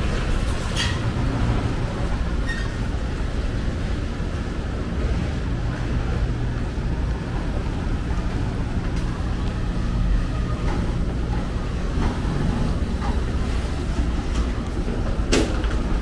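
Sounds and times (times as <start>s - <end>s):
large vehicle rumbling: 0.0s - 16.0s.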